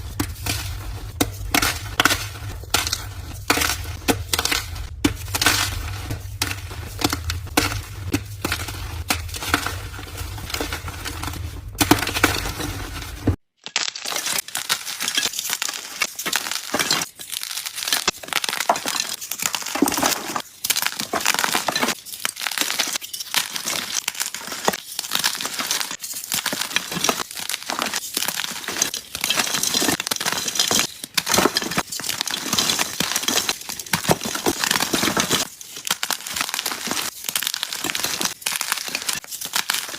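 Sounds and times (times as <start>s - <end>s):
chalk crunching and crumbling: 0.0s - 39.9s.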